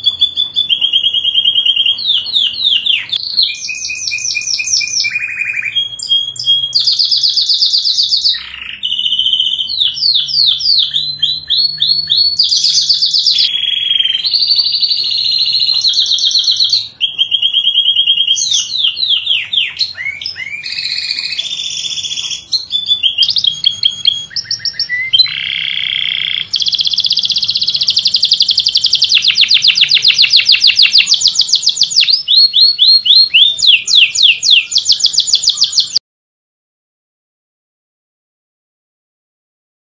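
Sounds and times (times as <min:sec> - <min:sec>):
canary singing trills: 0:00.0 - 0:36.0.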